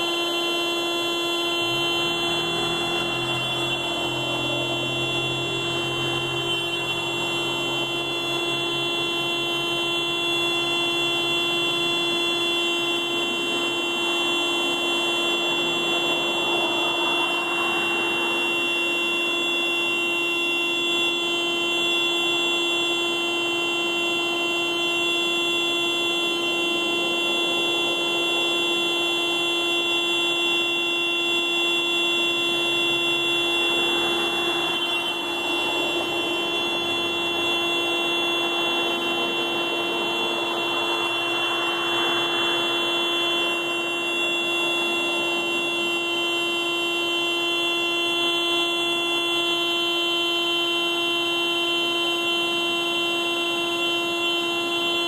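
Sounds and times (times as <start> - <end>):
car horn steady tone: 0.0 - 55.0.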